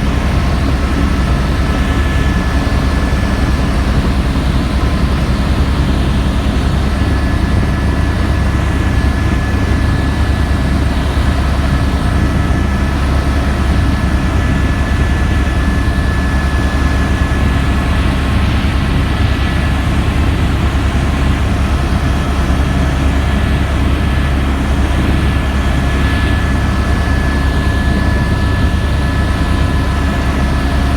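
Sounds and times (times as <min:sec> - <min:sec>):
helicopter rotor and engine drone: 0:00.0 - 0:30.9
high turbine whine: 0:00.0 - 0:30.9.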